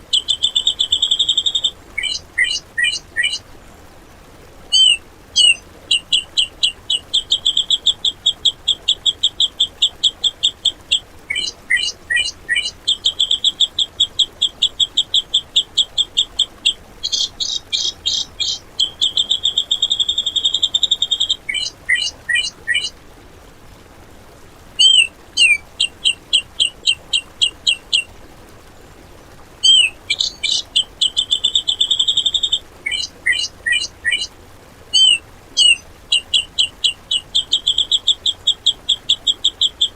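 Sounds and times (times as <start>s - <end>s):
bulbul calling: 0.0s - 3.4s, 4.7s - 23.0s, 24.8s - 28.1s, 29.6s - 34.3s, 34.9s - 39.9s.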